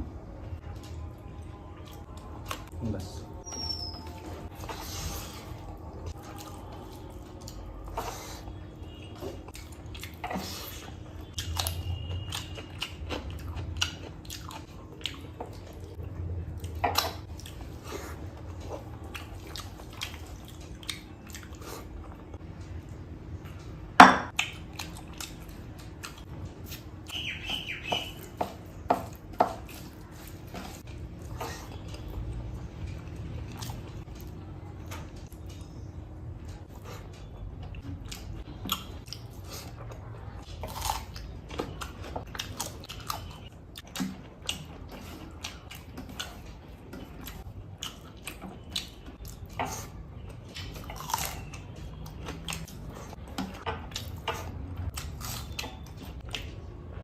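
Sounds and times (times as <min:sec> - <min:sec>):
chewing and wet mouth sounds: 0:00.4 - 0:57.0.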